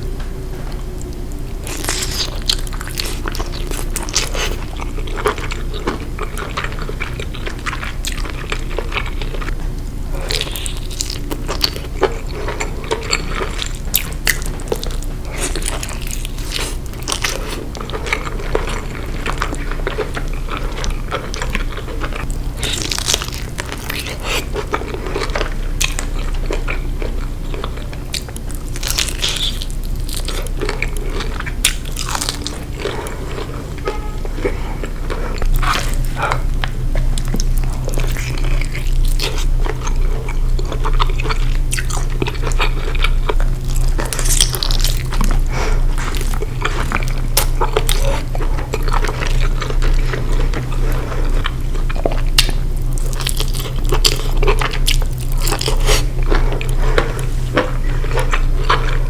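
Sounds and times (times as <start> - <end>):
crunchy chewing: 0.0 - 59.0
low steady hum: 0.0 - 59.0.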